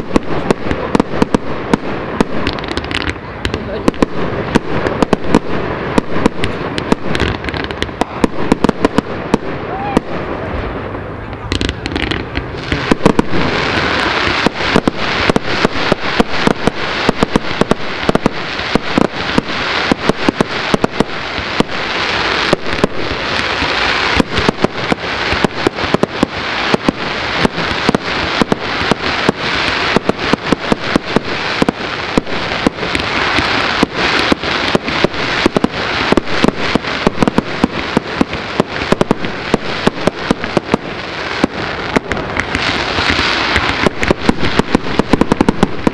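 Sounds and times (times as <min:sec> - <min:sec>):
fireworks bangs and pops: 0:00.0 - 0:45.9
fireworks crackling: 0:00.0 - 0:45.9.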